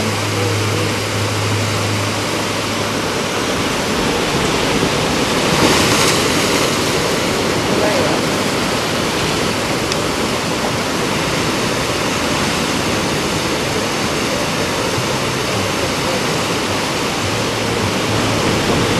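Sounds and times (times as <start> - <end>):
sea surf on rocky shore: 0.0 - 18.9.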